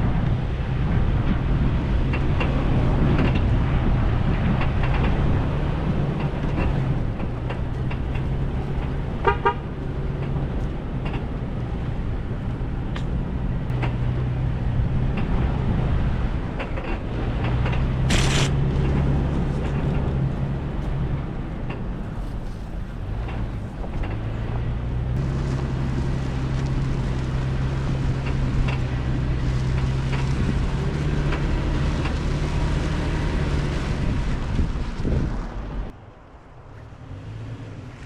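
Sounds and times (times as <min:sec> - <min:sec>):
road noise rumble: 0:00.0 - 0:38.0
vehicle engine humming: 0:00.0 - 0:38.0.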